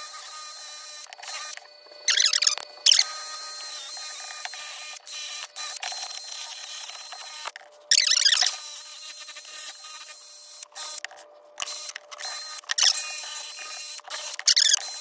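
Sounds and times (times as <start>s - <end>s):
drill motor whine: 0.0s - 15.0s.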